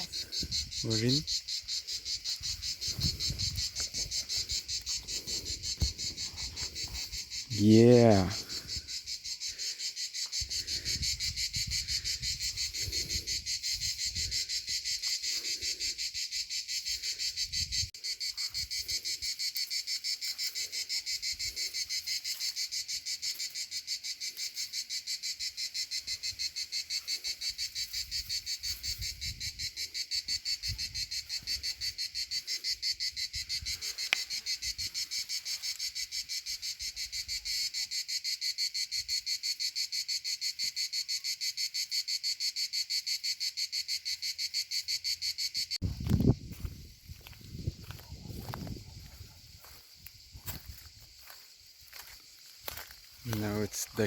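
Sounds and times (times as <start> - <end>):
insect chorus pulsing chirp: 0.0 - 54.0.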